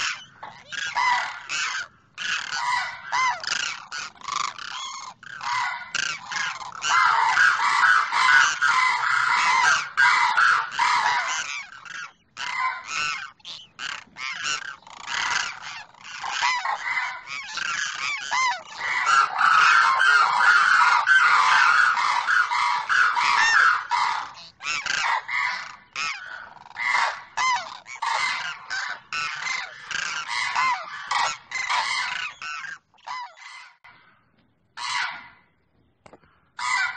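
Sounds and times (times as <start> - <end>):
cranes calling: 0.0 - 34.2, 34.8 - 35.4, 36.1 - 36.9.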